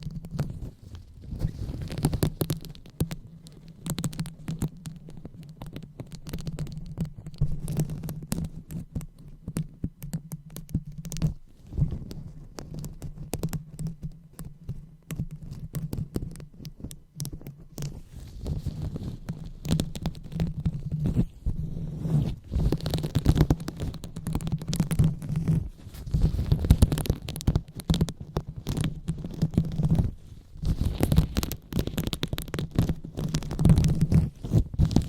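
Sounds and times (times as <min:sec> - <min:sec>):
hands rubbing a microphone: 0:00.0 - 0:35.0.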